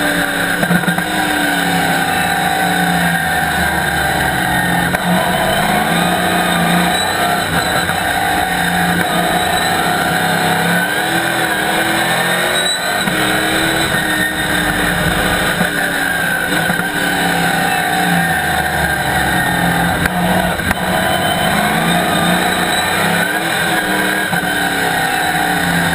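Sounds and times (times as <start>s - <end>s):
race car engine accelerating: 0.0s - 25.9s.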